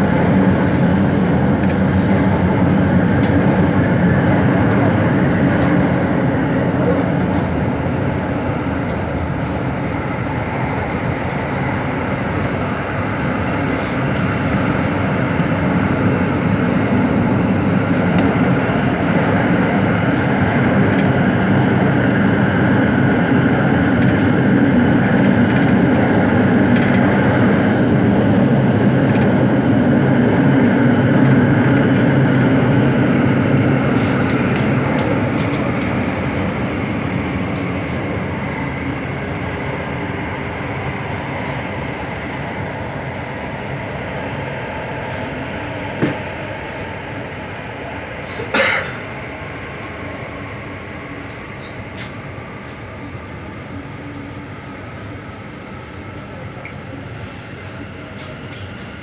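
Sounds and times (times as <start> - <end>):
metro train rumble: 0.0 - 59.0.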